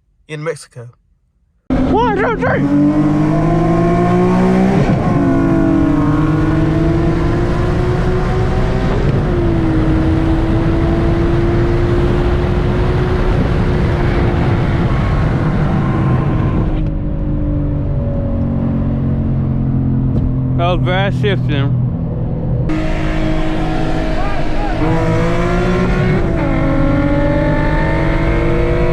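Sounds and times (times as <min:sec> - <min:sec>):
car engine revving at full throttle: 0:01.7 - 0:28.9.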